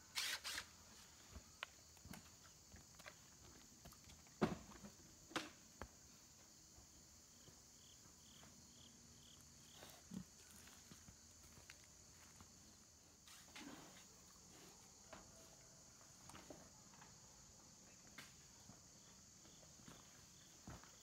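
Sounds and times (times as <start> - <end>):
insect drone: 0.0 - 21.0.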